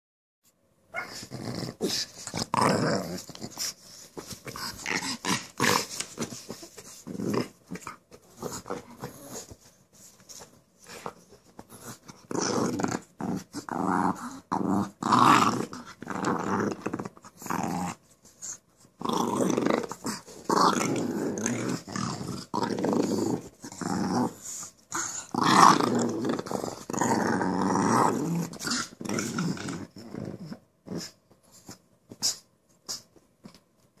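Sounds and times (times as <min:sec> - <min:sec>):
dogs growling: 0:01.0 - 0:09.6, 0:10.9 - 0:31.8.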